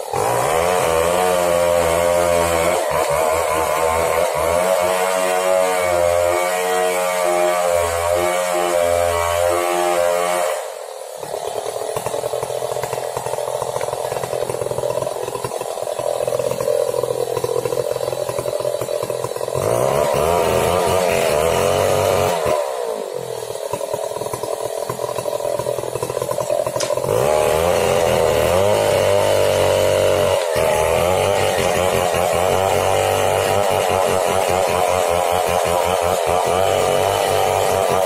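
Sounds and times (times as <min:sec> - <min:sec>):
chainsaw cutting tree: 0:00.0 - 0:38.0.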